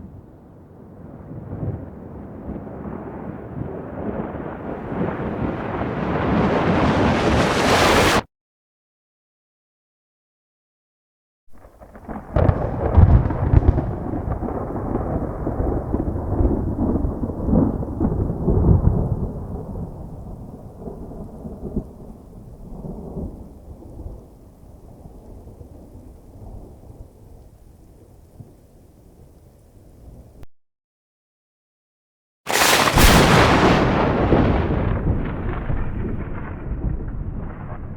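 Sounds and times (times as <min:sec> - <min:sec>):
thunderclap with low rumble: 0:00.0 - 0:08.2, 0:11.5 - 0:30.4, 0:32.5 - 0:37.9.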